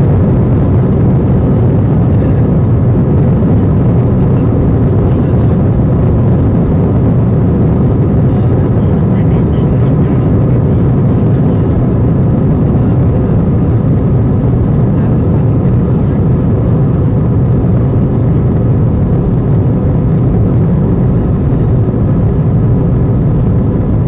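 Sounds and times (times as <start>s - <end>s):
aircraft engines low rumble: 0.0s - 24.0s.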